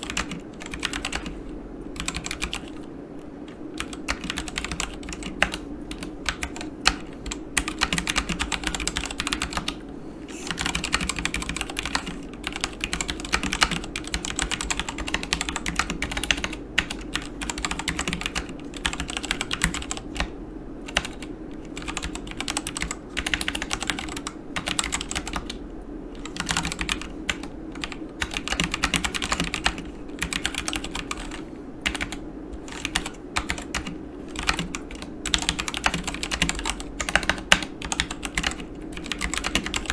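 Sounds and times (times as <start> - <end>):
mechanical keyboard typing: 0.0 - 1.4, 2.0 - 2.9, 3.5 - 9.8, 10.4 - 20.3, 20.9 - 25.6, 26.2 - 39.9.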